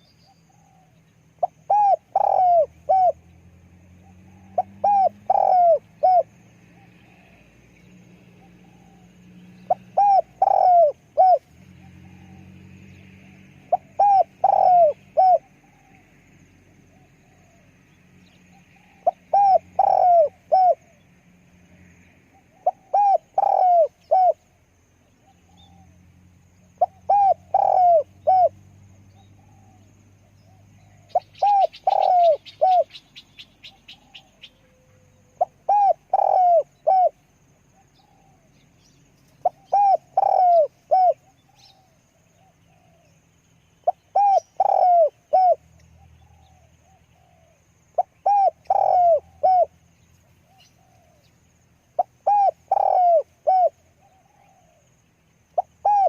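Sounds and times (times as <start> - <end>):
dove cooing: 0.5 - 12.6, 13.5 - 16.2, 16.9 - 17.7, 18.5 - 21.0, 22.3 - 24.6, 25.2 - 26.0, 26.7 - 43.2, 43.8 - 49.8, 50.4 - 51.3, 52.0 - 54.9, 55.6 - 56.0.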